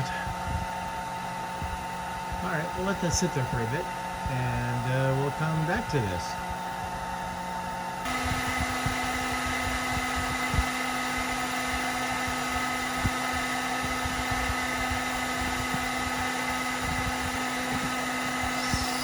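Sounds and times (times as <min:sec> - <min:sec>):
electric dryer running: 0:00.0 - 0:19.0.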